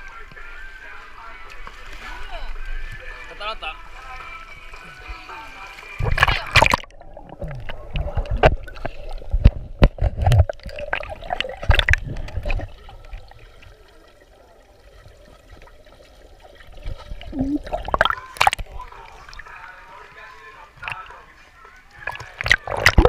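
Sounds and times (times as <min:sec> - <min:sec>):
water splashing and sloshing: 0:00.0 - 0:23.0
water trickling: 0:00.0 - 0:23.0.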